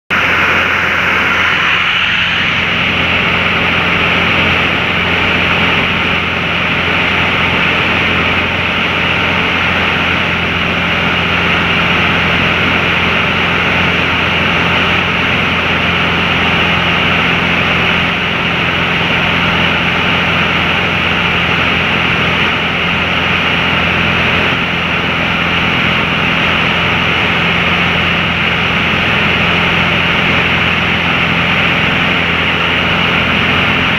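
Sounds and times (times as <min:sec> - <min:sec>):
small plane engine hum: 0:00.1 - 0:33.9.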